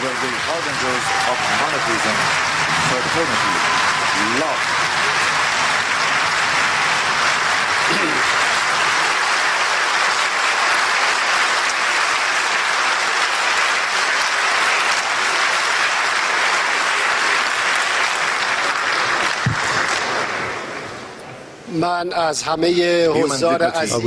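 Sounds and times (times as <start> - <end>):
audience applauding: 0.0 - 21.2.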